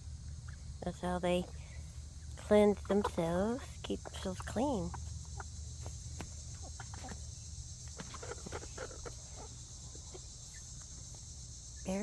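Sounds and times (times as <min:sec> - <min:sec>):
crickets chirring: 0:00.0 - 0:12.0
chickens clucking: 0:00.2 - 0:12.0
chickens scratching in dirt: 0:01.3 - 0:12.0.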